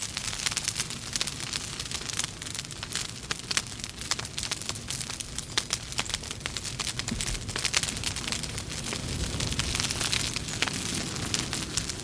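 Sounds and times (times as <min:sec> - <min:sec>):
logs crackling in fireplace: 0:00.0 - 0:12.0
low rumble of flames: 0:00.0 - 0:12.0.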